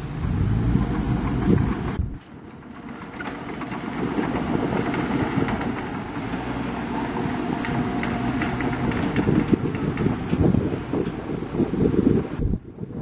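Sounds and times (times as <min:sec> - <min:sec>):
heavy diesel engine running: 0:00.0 - 0:12.4.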